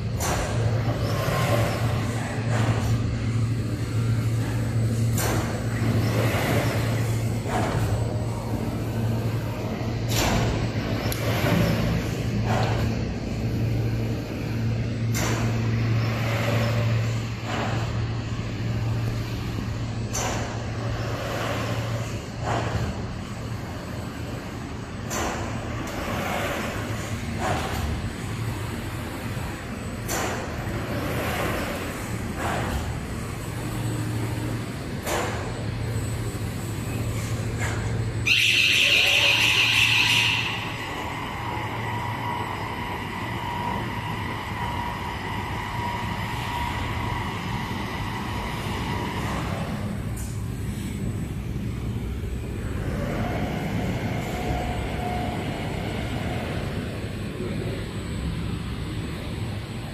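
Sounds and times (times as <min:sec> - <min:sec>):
printing machine humming: 0:00.0 - 0:59.9.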